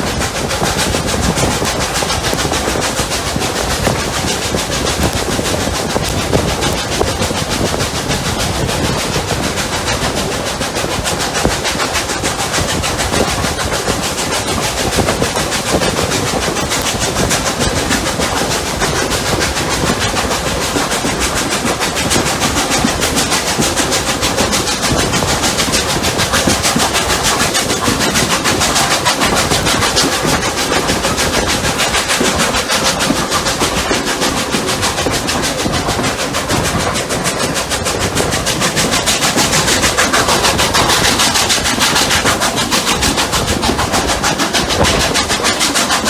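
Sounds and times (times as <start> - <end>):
steam train running: 0.0 - 46.0.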